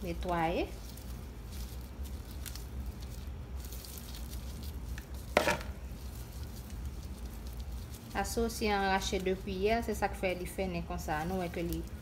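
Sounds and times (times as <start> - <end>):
leaves rustling and crackling: 0.0 - 12.0
steady low hum: 0.0 - 12.0.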